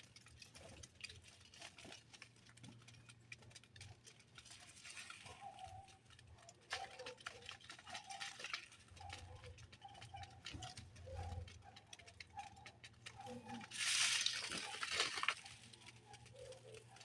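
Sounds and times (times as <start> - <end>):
quick clicks and rustling: 0.1 - 17.0.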